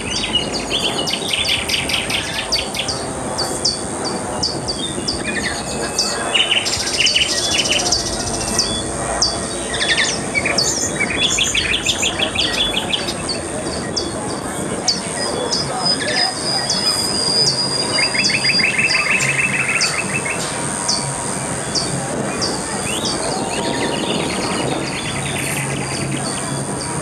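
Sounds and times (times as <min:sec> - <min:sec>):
high insect whine: 0:00.0 - 0:27.0
low background noise: 0:00.0 - 0:27.0
rapid trills: 0:00.0 - 0:27.0.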